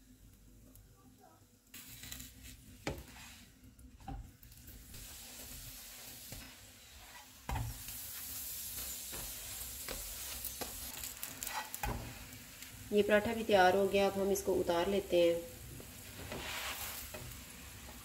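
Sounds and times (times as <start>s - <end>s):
ghee sizzling on a hot griddle: 0.0s - 18.0s.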